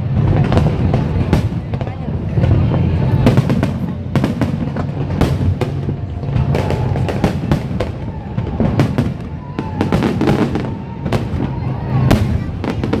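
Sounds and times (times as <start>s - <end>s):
continuous low rumble: 0.0s - 13.0s
fireworks bangs: 0.0s - 13.0s.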